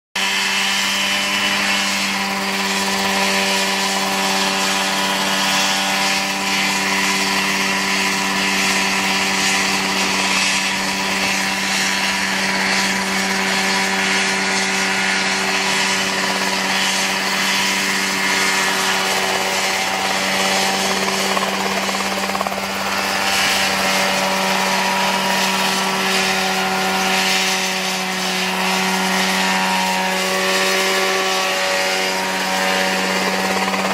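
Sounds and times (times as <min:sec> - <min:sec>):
helicopter engine running: 0:00.2 - 0:33.9.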